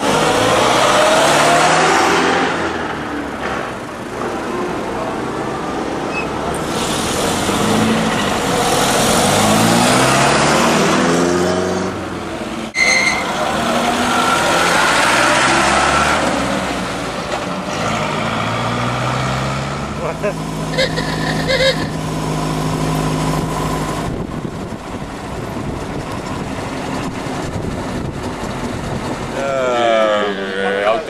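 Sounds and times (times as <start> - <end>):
car engines accelerating: 0.0 - 31.0.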